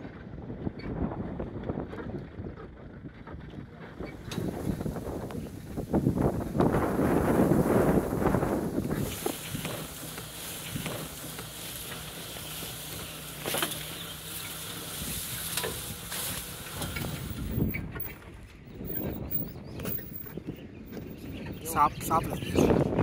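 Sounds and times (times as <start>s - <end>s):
vehicle knocks and rattles: 0.0s - 21.6s
vehicle engine hum: 0.0s - 23.0s
wind noise on microphone: 0.0s - 23.0s.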